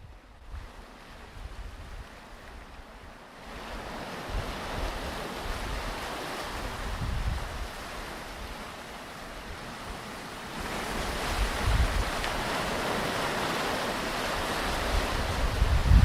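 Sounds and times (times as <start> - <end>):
wind rumble on microphone: 0.0 - 8.8, 9.4 - 16.0
ocean waves washing onto beach: 0.0 - 16.0.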